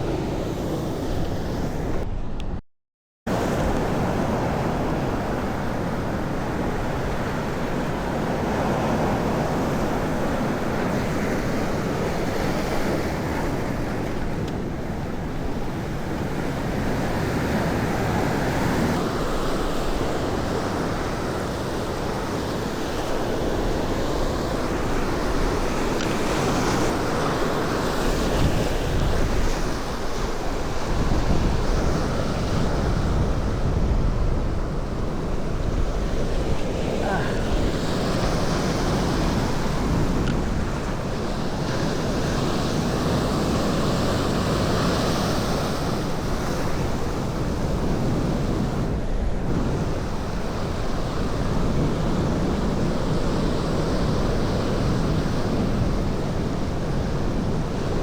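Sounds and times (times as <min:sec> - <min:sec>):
sea surf washing ashore: 0:03.3 - 0:58.0
wind buffeting microphone: 0:03.3 - 0:58.0.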